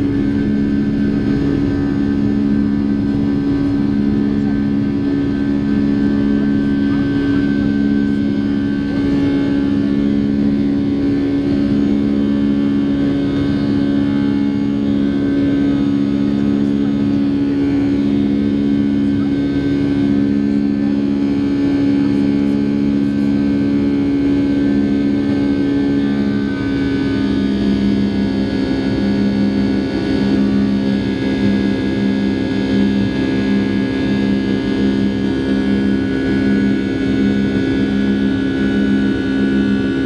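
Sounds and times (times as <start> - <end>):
jet engine cabin drone: 0.0 - 40.0.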